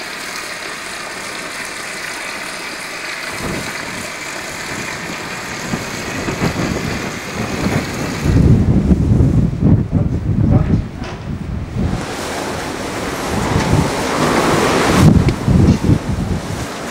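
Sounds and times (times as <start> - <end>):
low wind gusts: 3.1 - 16.9
wind buffeting microphone: 3.3 - 16.9
wind rushing hiss: 3.3 - 16.9.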